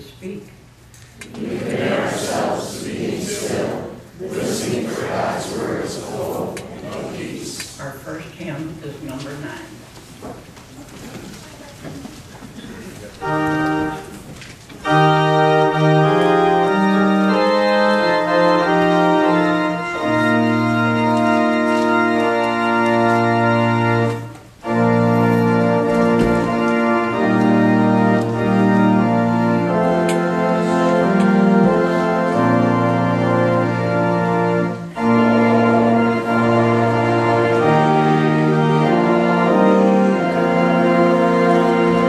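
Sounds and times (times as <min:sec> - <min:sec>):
church organ chords: 0:01.4 - 0:09.0, 0:13.1 - 0:42.0.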